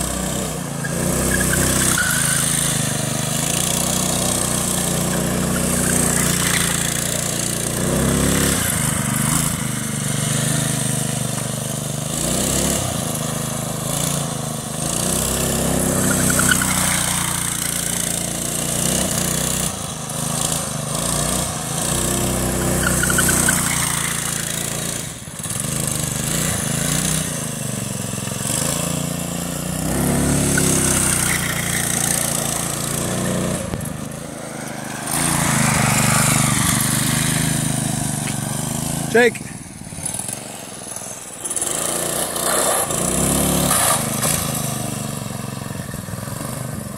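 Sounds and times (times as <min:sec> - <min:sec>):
go-kart engine: 0:00.0 - 0:46.9.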